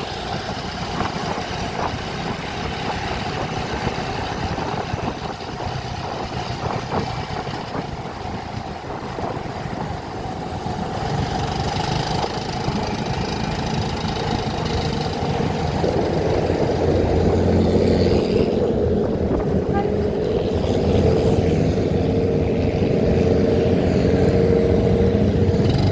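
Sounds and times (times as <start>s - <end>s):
vehicle engine running: 0.0s - 25.9s.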